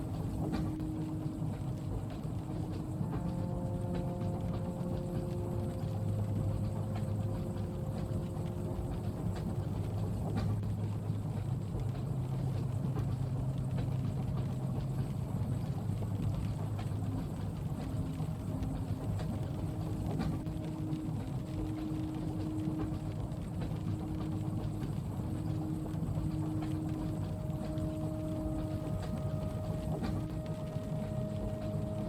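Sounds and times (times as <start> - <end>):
faint ticks: 0.0 - 32.0
low hum: 0.0 - 32.0
train rumble inside carriage: 0.0 - 32.0.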